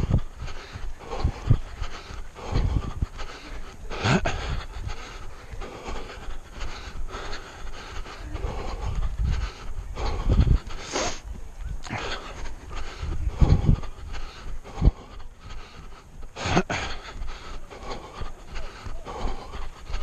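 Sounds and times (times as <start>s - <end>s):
runner breathing heavily: 0.0s - 20.0s
steady low rumble: 0.0s - 20.0s.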